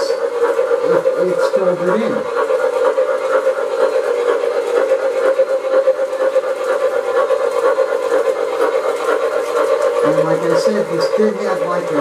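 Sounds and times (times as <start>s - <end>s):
droning hum: 0.0s - 12.0s.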